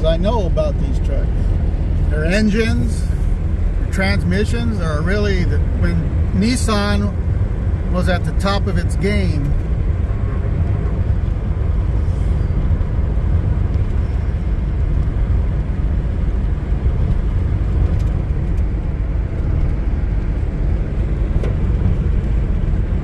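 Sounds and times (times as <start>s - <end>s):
pickup truck engine and road noise: 0.0s - 23.0s.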